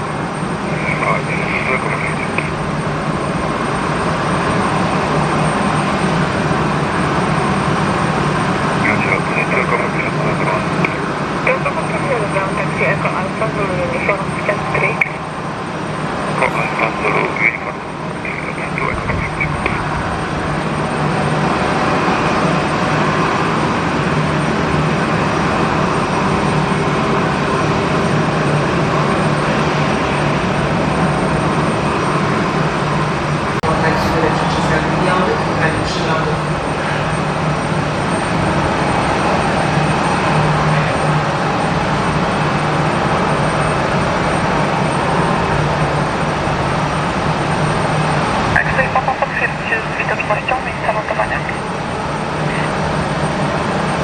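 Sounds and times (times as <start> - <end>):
thin high whine: 0.0 - 28.4, 29.1 - 54.0
jet airliner engines running: 0.0 - 54.0.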